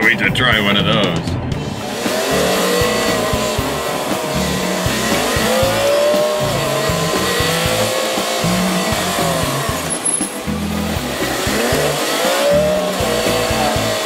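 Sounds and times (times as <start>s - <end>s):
truck diesel engine: 1.1s - 14.0s.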